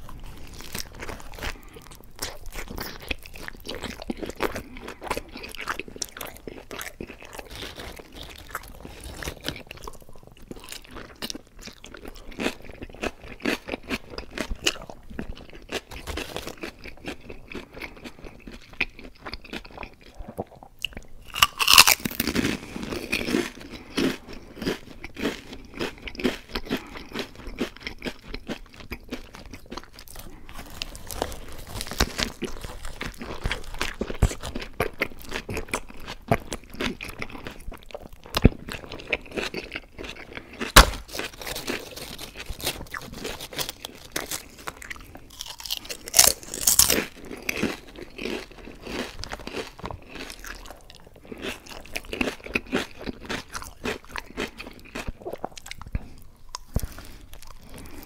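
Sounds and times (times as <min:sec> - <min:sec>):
person chewing crunchy food: 0:00.0 - 0:58.0.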